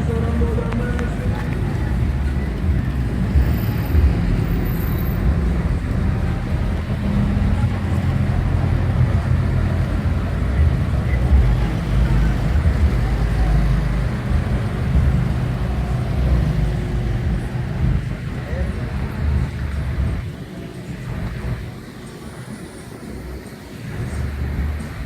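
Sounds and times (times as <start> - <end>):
faint voices: 0.0 - 25.0
vehicle engines and road noise: 0.0 - 25.0.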